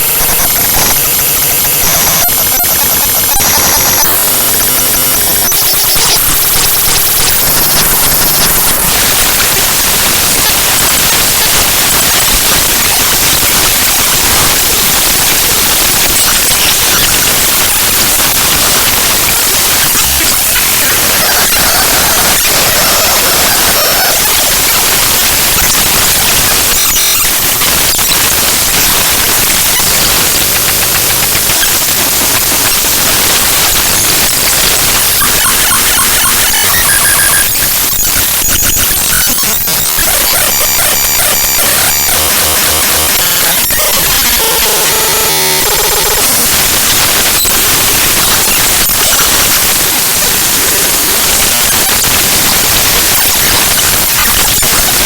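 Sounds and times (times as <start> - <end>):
harsh static noise: 0.0 - 55.0.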